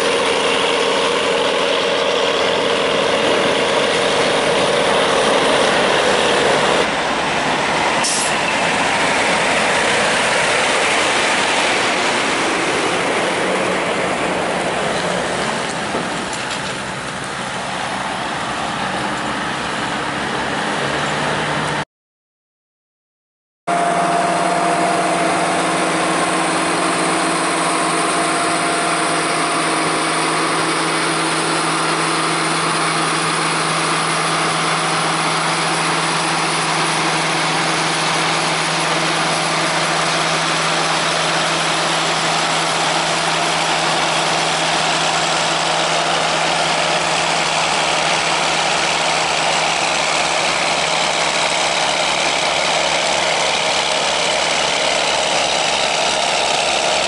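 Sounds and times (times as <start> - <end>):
heavy machinery engine drone: 0.0 - 21.8, 23.7 - 57.0.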